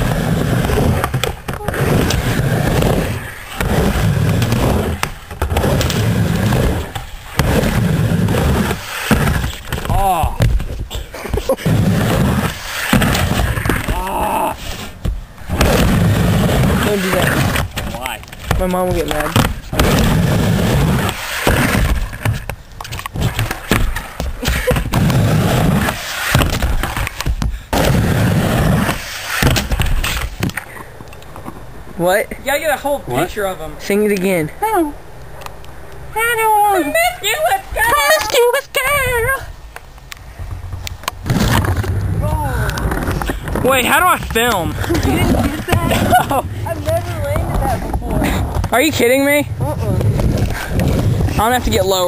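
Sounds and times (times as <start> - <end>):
skateboard wheels rolling: 0.0 - 52.0.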